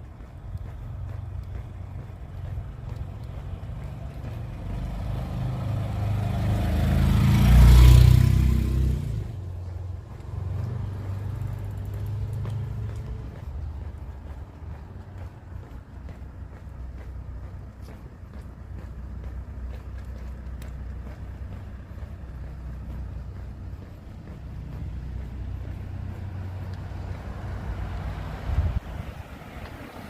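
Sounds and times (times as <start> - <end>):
car passing on wet street: 0.0 - 30.0.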